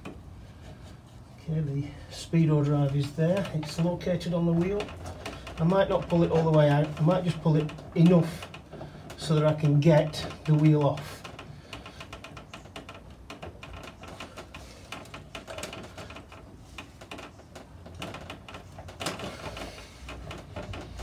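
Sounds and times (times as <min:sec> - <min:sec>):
wheel axle clicking and rattling: 0:01.8 - 0:21.0.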